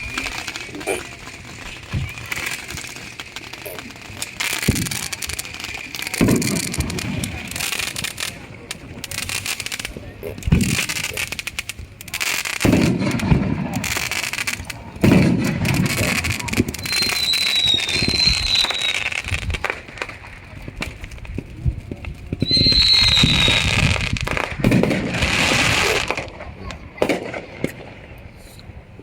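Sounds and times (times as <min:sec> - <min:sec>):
high whistle of fireworks: 0:00.0 - 0:09.9, 0:10.5 - 0:28.8
firecrackers popping and crackling: 0:00.0 - 0:28.8.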